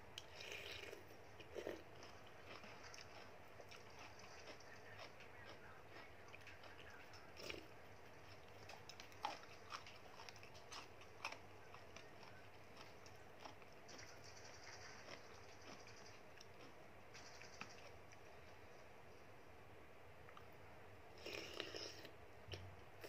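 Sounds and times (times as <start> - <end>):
faint chewing: 0.1 - 18.9, 20.2 - 23.0.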